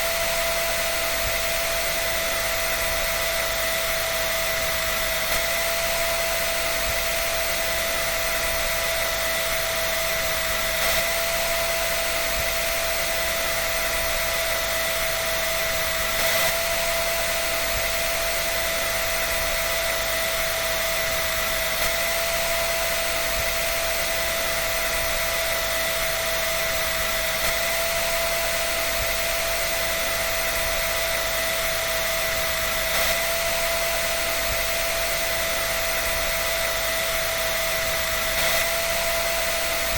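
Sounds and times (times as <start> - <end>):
electric dryer running: 0.0 - 39.9
steady motor whine: 0.0 - 39.9.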